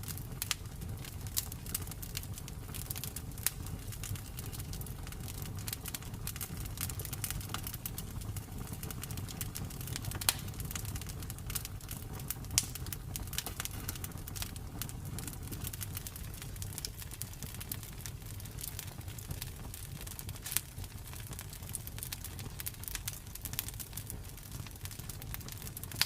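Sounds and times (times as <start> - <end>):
low rumble of flames: 0.0 - 26.0
wood crackling and popping: 0.0 - 26.0.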